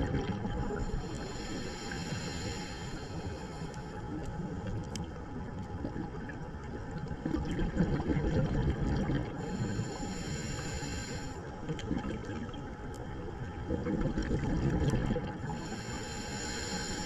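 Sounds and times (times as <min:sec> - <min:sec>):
underwater rush and gurgle: 0:00.0 - 0:17.0.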